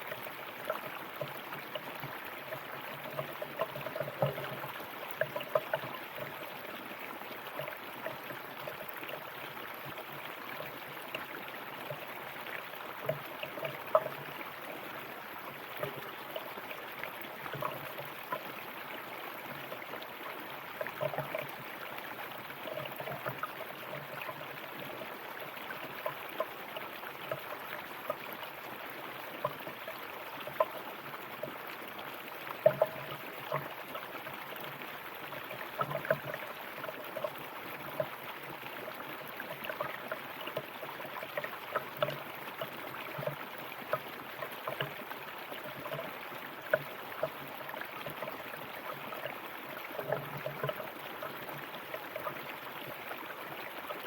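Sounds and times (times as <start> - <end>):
water gurgles and splashes: 0.0 - 54.0.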